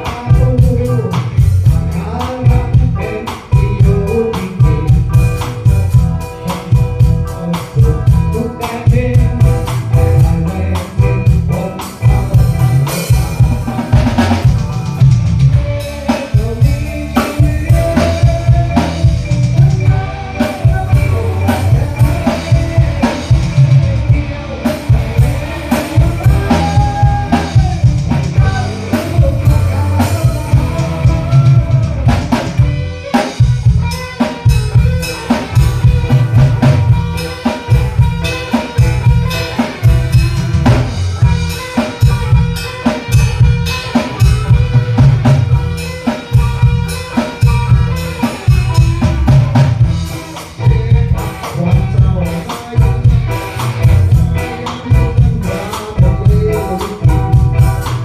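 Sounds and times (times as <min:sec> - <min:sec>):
band music with heavy bass: 0:00.0 - 0:58.0
drum kit beat: 0:00.0 - 0:58.0.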